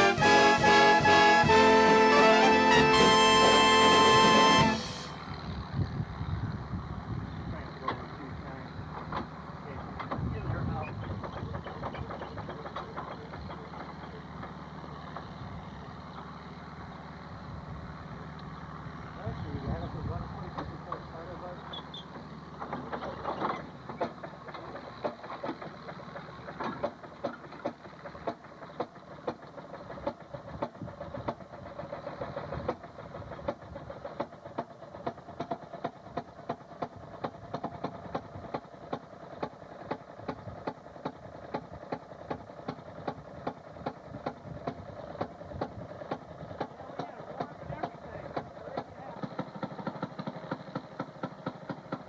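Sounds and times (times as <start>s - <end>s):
railroad motorcar running on rails: 0.0s - 52.0s.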